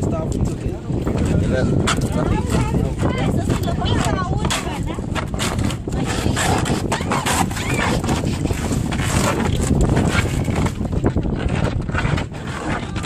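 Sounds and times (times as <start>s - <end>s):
boat engine: 0.0s - 13.0s
wind buffeting microphone: 0.0s - 13.0s.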